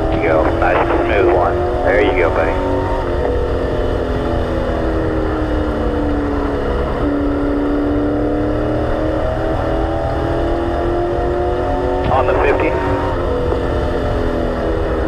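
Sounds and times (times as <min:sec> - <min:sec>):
race car engine from inside: 0:00.0 - 0:15.0
road and wind rumble: 0:00.0 - 0:15.0.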